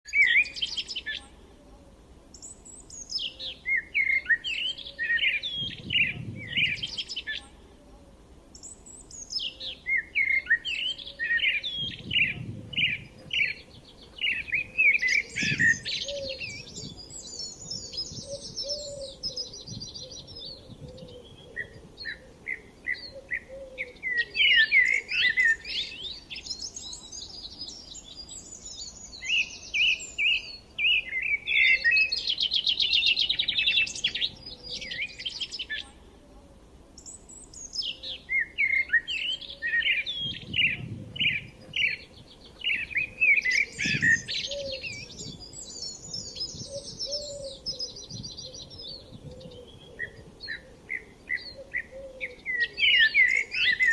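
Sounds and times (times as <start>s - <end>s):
songbirds singing and chirping: 0.0s - 53.9s.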